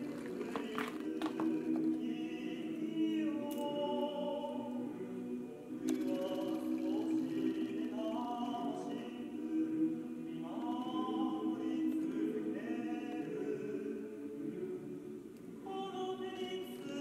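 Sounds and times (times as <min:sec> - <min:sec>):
choir-like voices holding notes: 0:00.0 - 0:17.0.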